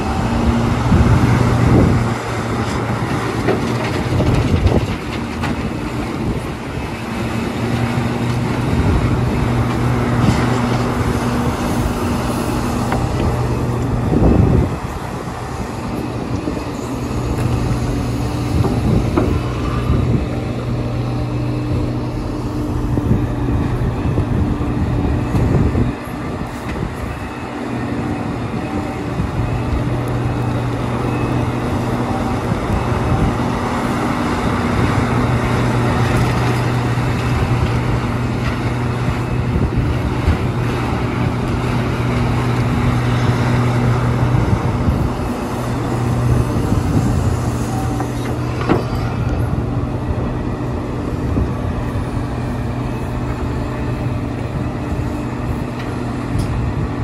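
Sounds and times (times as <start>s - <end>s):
excavator diesel engine humming: 0.0s - 57.0s.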